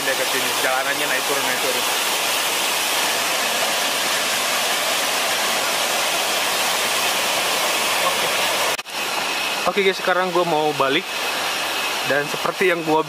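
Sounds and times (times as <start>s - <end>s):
waterfall rushing onto rock: 0.0s - 13.0s.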